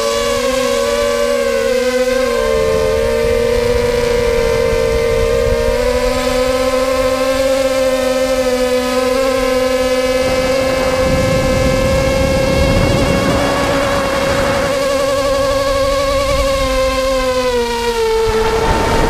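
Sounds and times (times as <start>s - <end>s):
quadcopter propellers whining: 0.0s - 19.0s
wind rumble on microphone: 0.0s - 19.0s.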